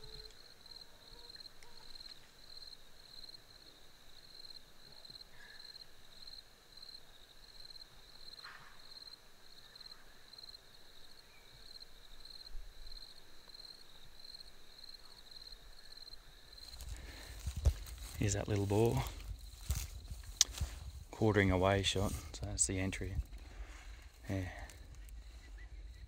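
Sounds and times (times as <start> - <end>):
insect pulsing chirp: 0.0 - 26.0.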